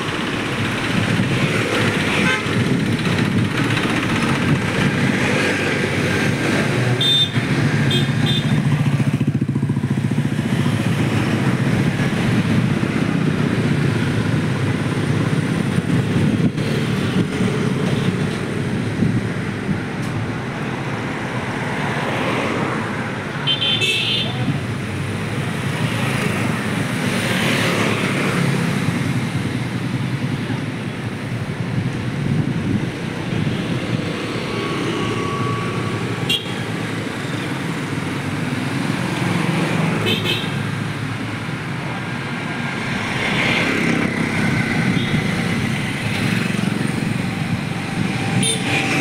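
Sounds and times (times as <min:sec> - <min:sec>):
car and motorbike traffic: 0:00.0 - 0:49.0.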